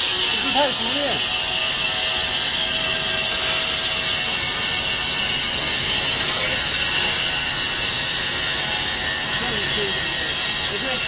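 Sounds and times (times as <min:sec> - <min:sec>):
foam cutting machine hissing: 0:00.0 - 0:11.0.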